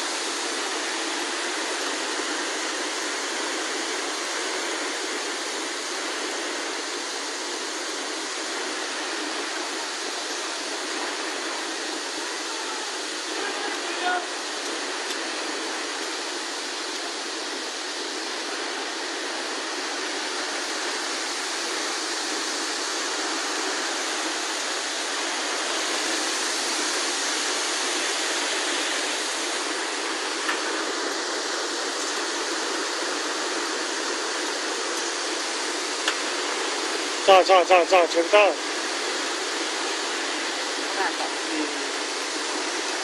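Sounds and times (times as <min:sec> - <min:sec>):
rushing floodwater: 0:00.0 - 0:43.0.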